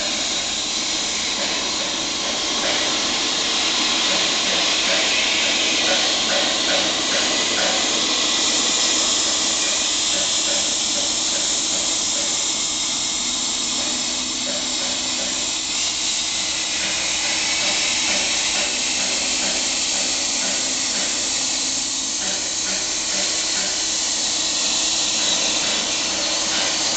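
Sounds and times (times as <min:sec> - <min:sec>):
plasma cutter hissing: 0:00.0 - 0:26.9.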